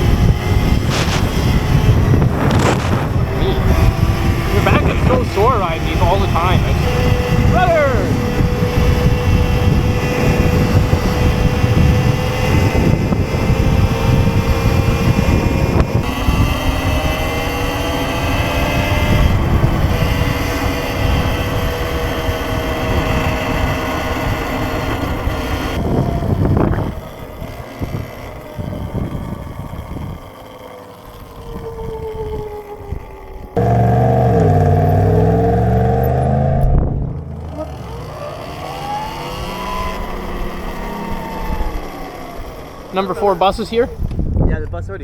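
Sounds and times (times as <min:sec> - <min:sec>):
wind noise on microphone: 0:00.0 - 0:30.3, 0:31.4 - 0:42.5, 0:43.8 - 0:45.0
electric dirt bike motor whine: 0:00.0 - 0:44.4.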